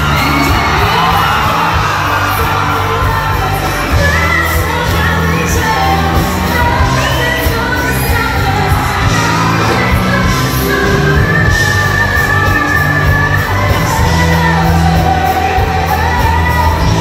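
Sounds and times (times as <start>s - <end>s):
crowd shouting and cheering: 0.0s - 17.0s
live pop-rock band: 0.0s - 17.0s
woman singing: 0.0s - 17.0s.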